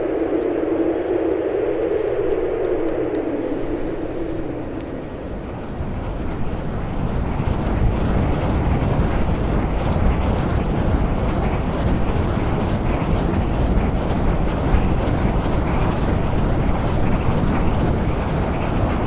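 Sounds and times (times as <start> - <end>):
wind blowing: 0.0 - 19.0.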